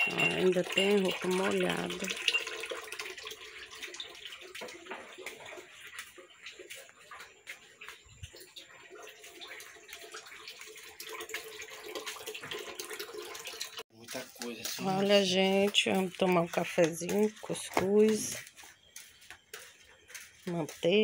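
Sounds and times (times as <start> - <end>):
faint running water: 0.0 - 21.0.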